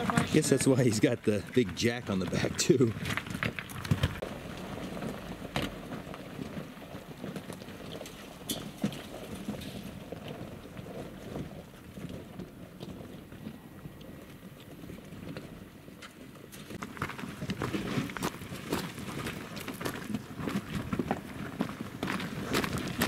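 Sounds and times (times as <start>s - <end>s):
low engine and tyre noise: 0.0s - 23.0s
stones and gravel knocking: 0.0s - 23.0s.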